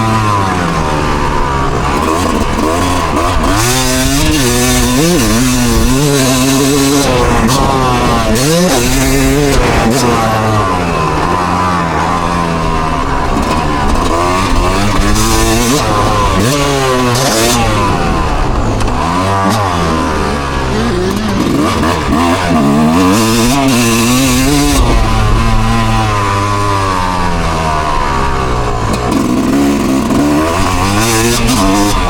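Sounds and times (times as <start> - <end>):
engine revving over idle: 0.0 - 32.0.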